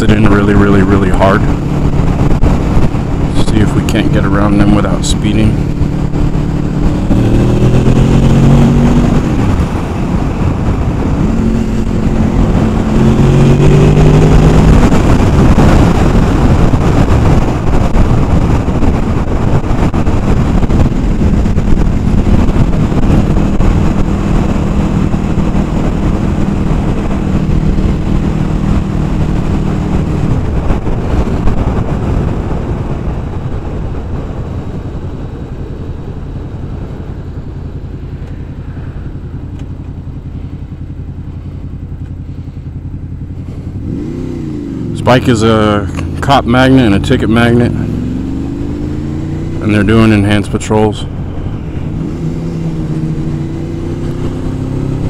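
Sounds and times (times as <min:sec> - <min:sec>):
wind rush on microphone: 0:00.0 - 0:55.0.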